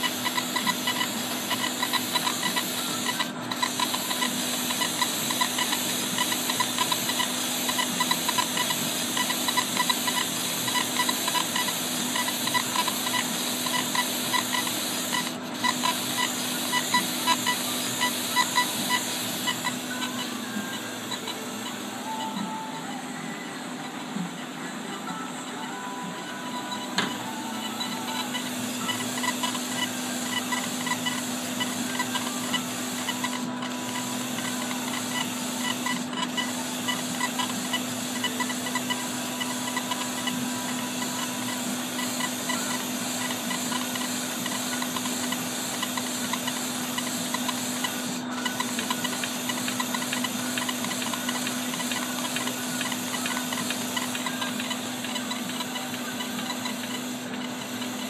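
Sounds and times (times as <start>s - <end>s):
laser engraver head rattling: 0.0s - 22.4s, 26.2s - 58.0s
steady hum: 0.0s - 58.0s.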